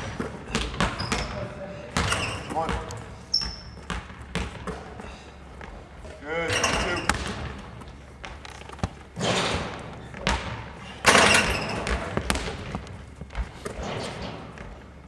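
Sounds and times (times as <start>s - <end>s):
basketball bouncing in a hall: 0.0s - 15.0s.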